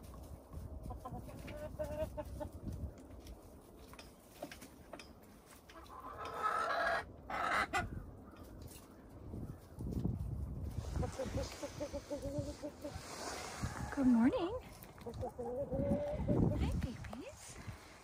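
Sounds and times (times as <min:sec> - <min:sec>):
hens clucking softly: 0:00.1 - 0:03.6, 0:04.2 - 0:09.9, 0:10.5 - 0:17.7.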